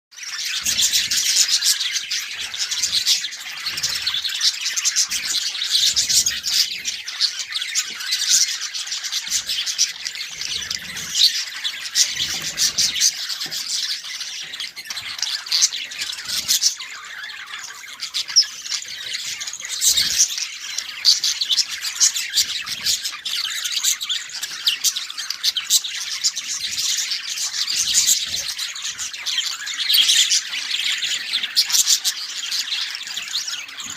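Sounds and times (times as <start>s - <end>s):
budgies chirping and chattering: 0.1s - 33.9s.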